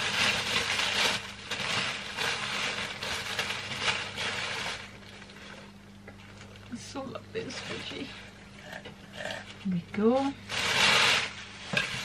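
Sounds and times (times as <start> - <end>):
tissue paper rustling: 0.0 - 8.2, 10.1 - 12.0.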